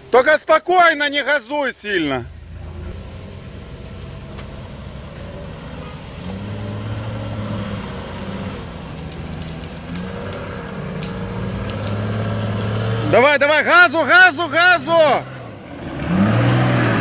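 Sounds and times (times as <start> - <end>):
truck engine at low revs: 0.0 - 17.0.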